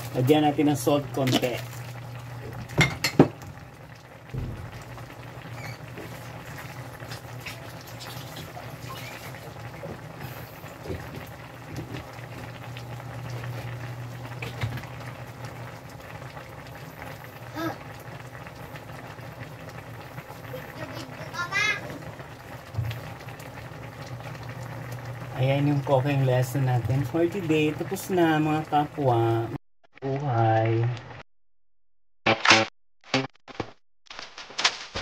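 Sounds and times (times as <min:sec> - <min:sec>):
stew simmering and bubbling: 0:00.0 - 0:31.2.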